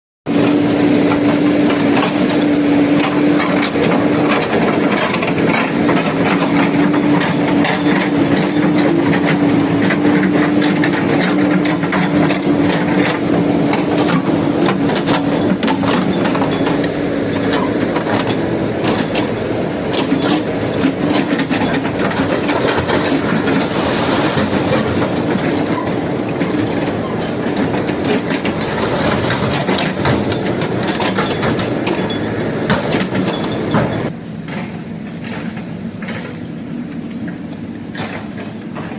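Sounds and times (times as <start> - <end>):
diesel engine droning: 0.3 - 38.9
metallic clanking and rattling: 0.4 - 36.6.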